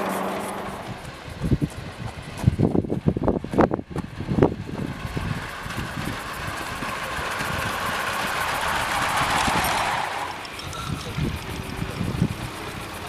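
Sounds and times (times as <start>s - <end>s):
steam locomotive hissing and rumbling: 0.0s - 13.0s.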